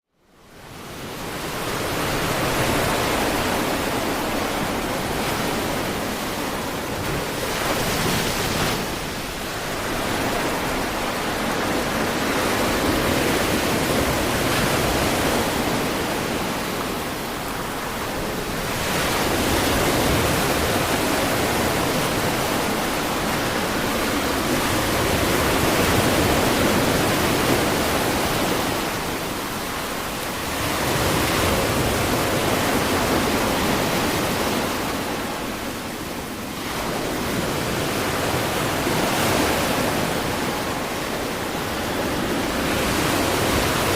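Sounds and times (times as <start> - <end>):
ocean surf washing onto beach: 0.4 - 43.9.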